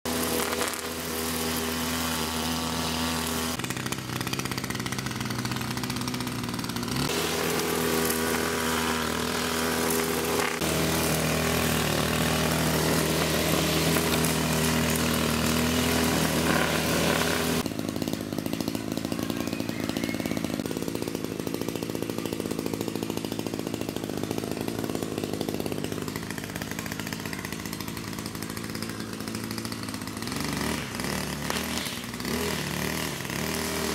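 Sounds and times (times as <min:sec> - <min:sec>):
small engine machine running: 0:00.0 - 0:33.9.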